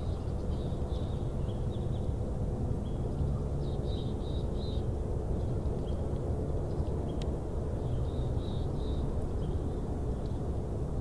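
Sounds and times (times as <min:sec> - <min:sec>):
small birds chirping: 0:00.0 - 0:02.2, 0:02.8 - 0:10.5
low outdoor rumble: 0:00.0 - 0:11.0.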